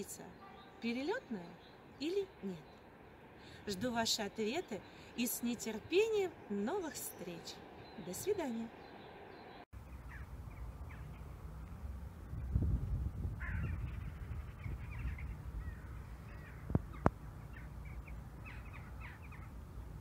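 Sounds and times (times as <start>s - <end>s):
low uneven rumble: 1.5s - 20.0s.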